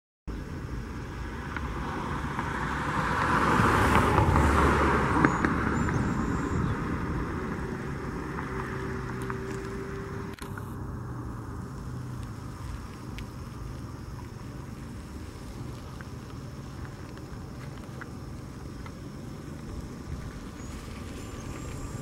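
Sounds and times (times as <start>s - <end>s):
vehicle driving past: 1.0s - 22.0s.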